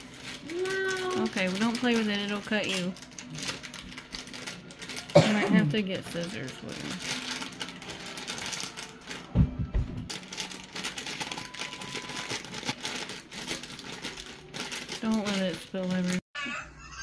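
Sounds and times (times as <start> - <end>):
plastic bag crinkling: 0.0 - 9.3, 10.1 - 16.2.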